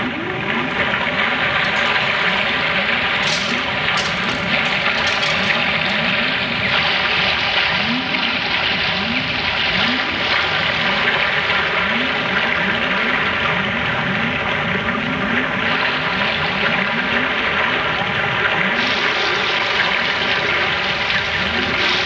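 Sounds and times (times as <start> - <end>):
rushing water-like noise: 0.2 - 14.7, 15.4 - 22.0.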